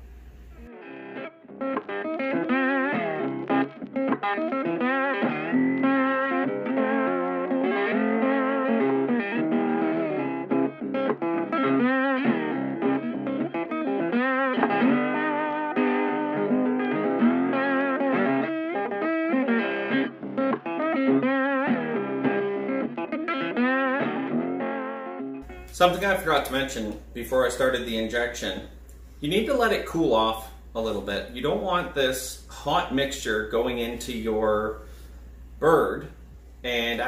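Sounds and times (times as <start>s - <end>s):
guitar melody with bent notes: 0.0s - 37.0s.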